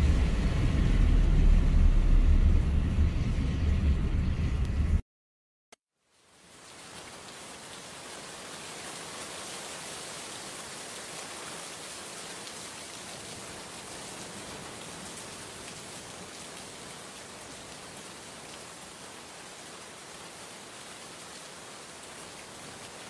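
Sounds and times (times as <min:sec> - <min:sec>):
steady rain falling: 0:00.0 - 0:03.8, 0:06.0 - 0:23.0.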